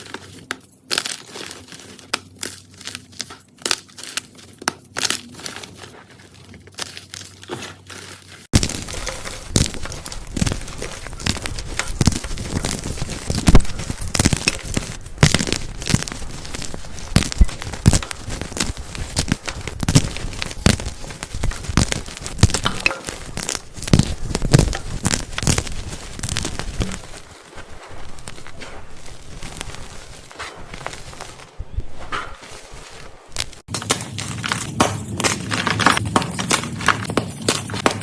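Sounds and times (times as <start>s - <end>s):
chalk crunching and crackling: 0.0s - 38.0s.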